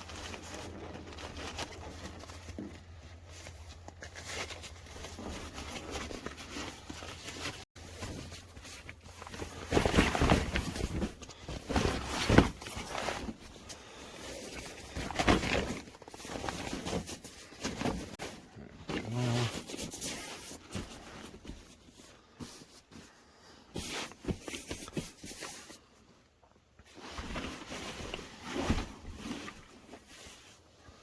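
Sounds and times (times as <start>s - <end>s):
camping gear rustling: 0.0s - 31.0s.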